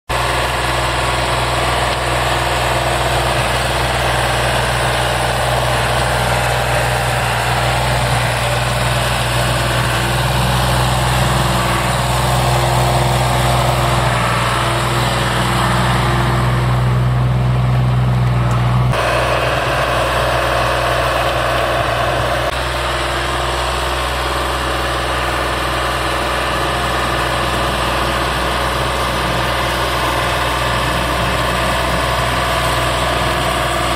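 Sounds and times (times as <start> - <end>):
tractor diesel engine under load: 0.1 - 33.9.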